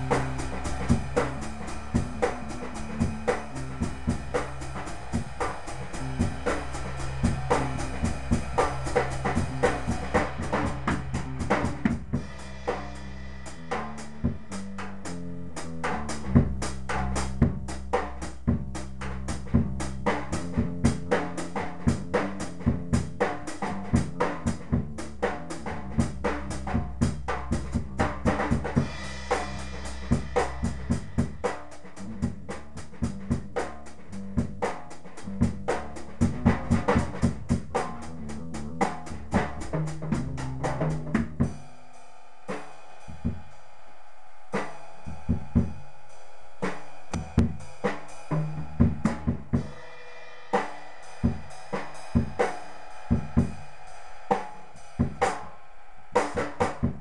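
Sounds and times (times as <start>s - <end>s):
low bass notes: 0.0s - 41.6s, 43.1s - 43.5s, 44.9s - 45.9s, 47.1s - 49.8s
drum kit groove: 0.0s - 41.7s, 42.5s - 43.5s, 44.6s - 45.8s, 46.6s - 55.5s, 56.2s - 57.0s.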